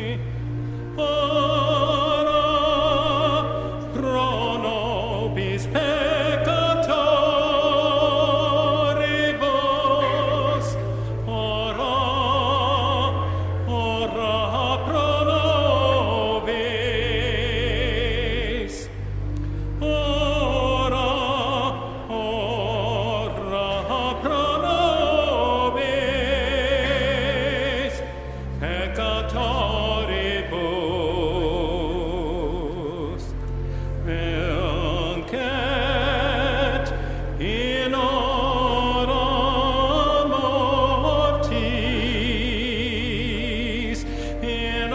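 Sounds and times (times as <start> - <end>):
classical voice singing: 0.0 - 44.9
low held bass notes: 0.0 - 44.9.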